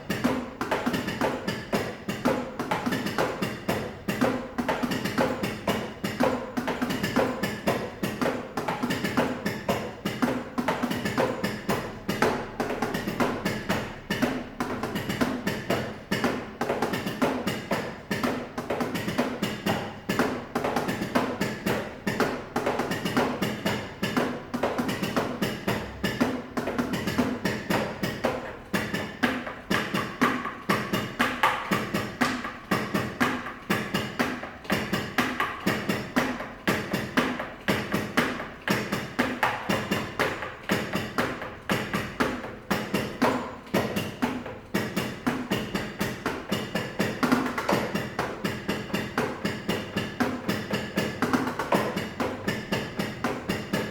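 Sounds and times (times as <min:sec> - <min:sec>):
drumsticks tapping on pads: 0:00.0 - 0:53.9.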